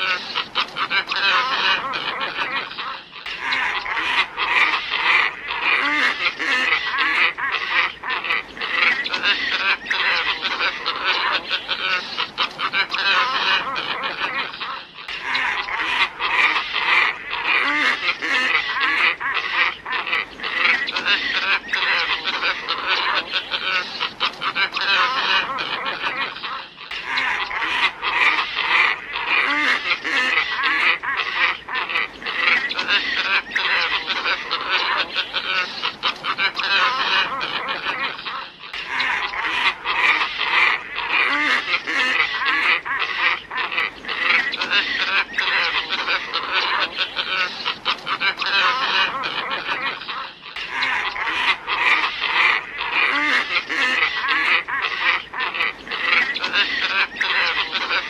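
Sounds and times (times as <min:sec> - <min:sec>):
ibises calling hoarsely: 0:00.0 - 0:58.0.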